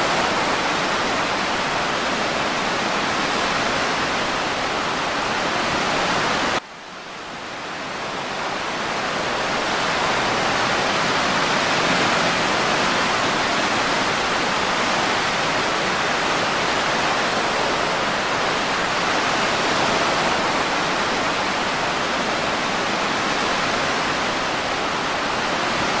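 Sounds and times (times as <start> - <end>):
ocean surf and breeze: 0.0 - 26.0.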